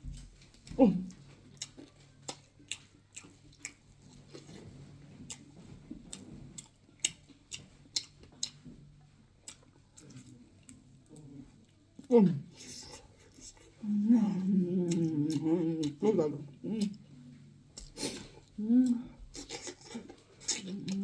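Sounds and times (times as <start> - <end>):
chewing: 0.1 - 21.0.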